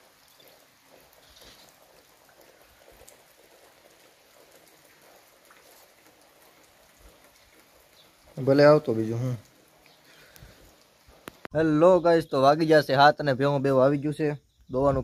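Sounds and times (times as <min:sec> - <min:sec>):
raindrops ticking: 0:00.0 - 0:13.9
light rain pattering: 0:00.0 - 0:15.0.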